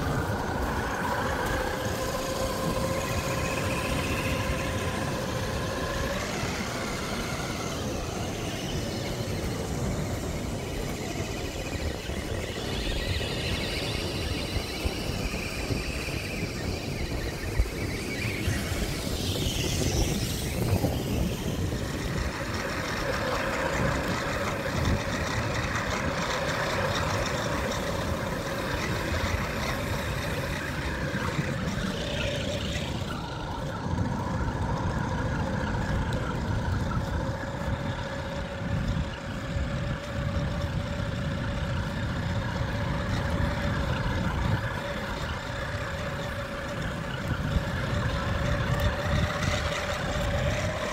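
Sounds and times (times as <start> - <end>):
radio-controlled car motor whine: 0.0 - 50.9
wheels rumbling on rough ground: 0.0 - 50.9.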